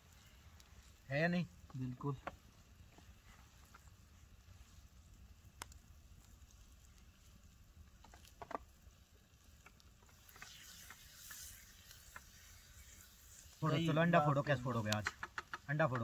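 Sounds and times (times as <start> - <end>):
campfire crackling: 0.0 - 16.0
soft fire hiss: 0.0 - 16.0.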